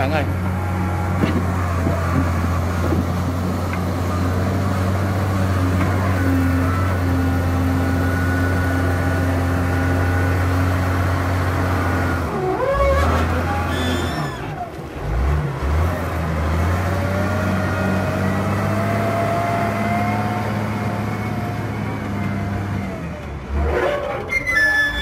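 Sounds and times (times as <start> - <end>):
diesel engine running hard: 0.0 - 25.0.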